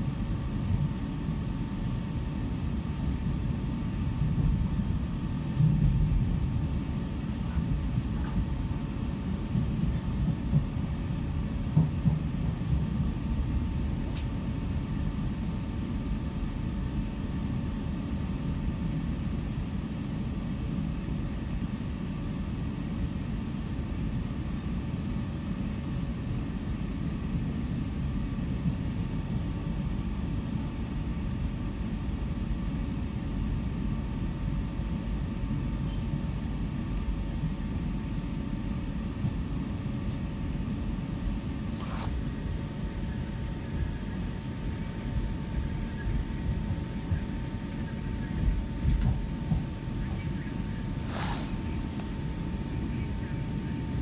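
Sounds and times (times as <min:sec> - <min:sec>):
faint constant whine: 0:00.0 - 0:54.0
train running rumble: 0:00.0 - 0:54.0.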